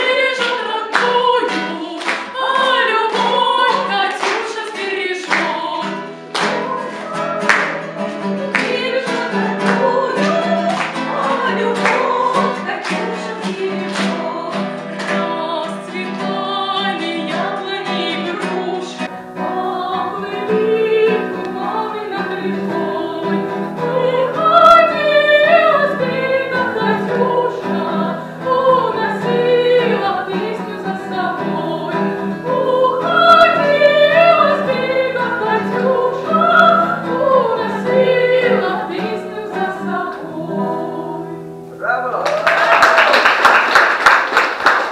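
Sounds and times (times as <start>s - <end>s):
woman singing: 0.0s - 41.6s
classical guitar: 0.0s - 42.2s.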